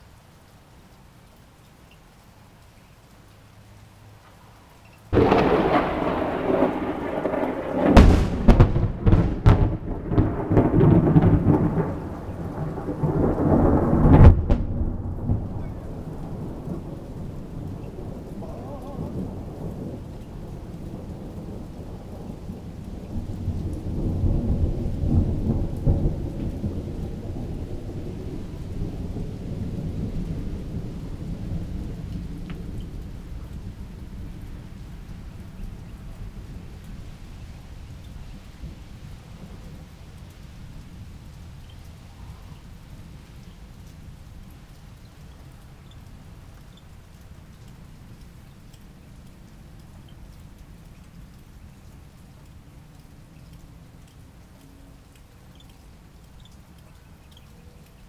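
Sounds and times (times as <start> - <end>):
rain falling: 0.0 - 58.0
thunder cracking and rumbling: 5.1 - 52.8.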